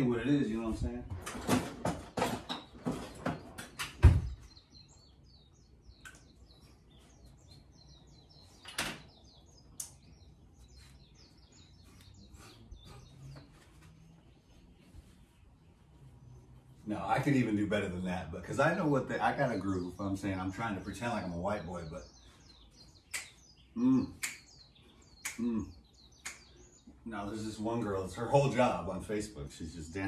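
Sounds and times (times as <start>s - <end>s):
faint birds chirping: 0.0s - 30.0s.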